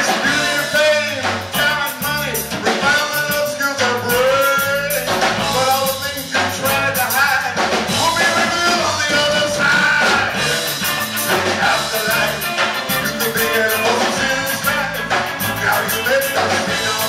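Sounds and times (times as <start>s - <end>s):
drums: 0.0s - 17.0s
man singing into a microphone: 0.0s - 17.0s
rock band playing: 0.0s - 17.0s.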